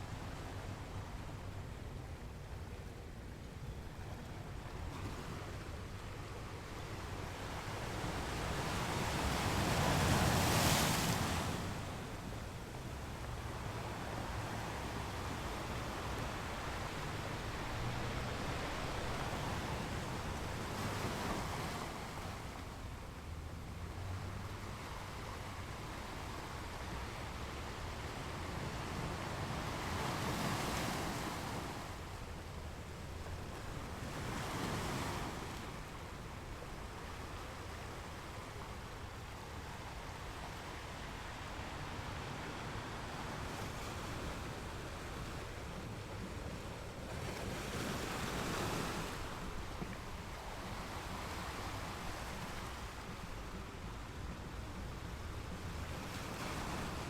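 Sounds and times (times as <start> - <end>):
small waves washing on beach: 4.5 - 57.0.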